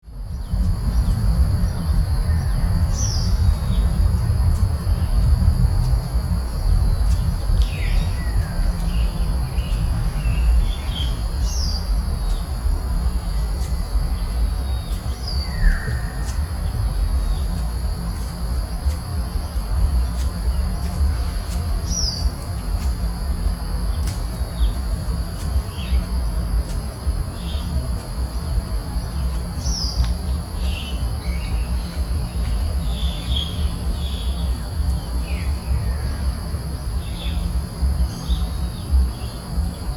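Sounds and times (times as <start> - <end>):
high insect drone: 0.0 - 39.9
low rumble: 0.0 - 39.9.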